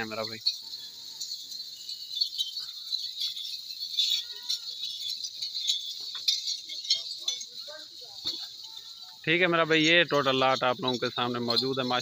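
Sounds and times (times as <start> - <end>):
crickets chirring: 0.0 - 12.0
metal ankle rings jingling: 0.0 - 12.0.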